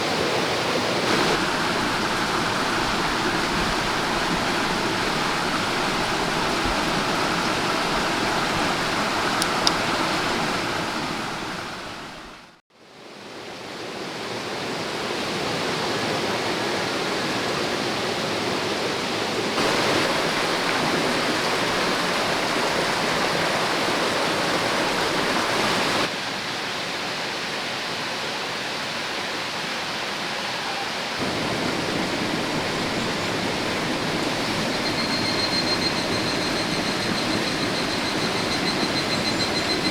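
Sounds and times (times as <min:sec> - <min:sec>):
stream rushing over rocks: 0:00.0 - 0:12.6, 0:13.3 - 0:39.9.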